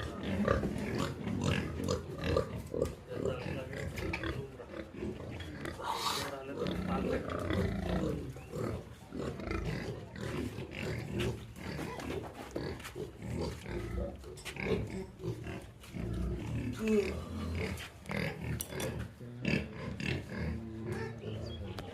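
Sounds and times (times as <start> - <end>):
pigs grunting: 0.0 - 21.9.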